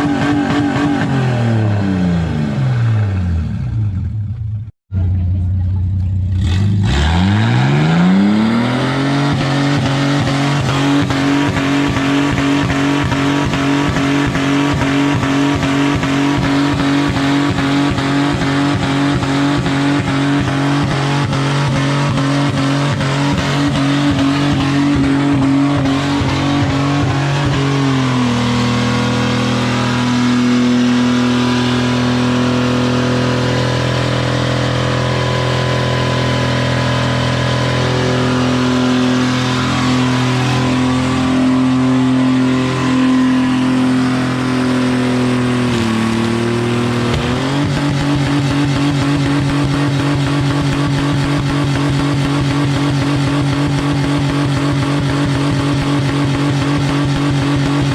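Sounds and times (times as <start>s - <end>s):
car engine at high revs: 0.0s - 57.9s.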